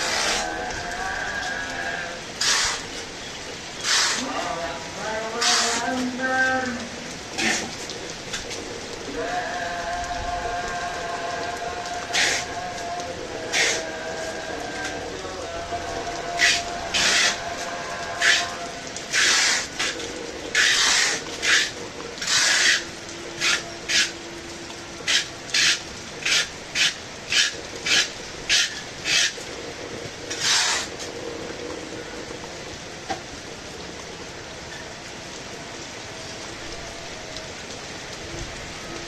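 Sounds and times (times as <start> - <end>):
heavy rain hissing: 0.0 - 39.0.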